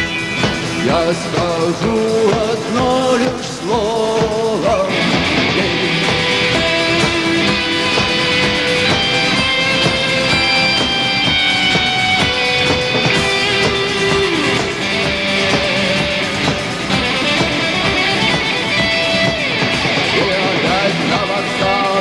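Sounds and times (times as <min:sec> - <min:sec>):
drum beat: 0:00.0 - 0:22.0
electric guitar melody: 0:00.0 - 0:22.0
strummed guitar: 0:00.0 - 0:22.0.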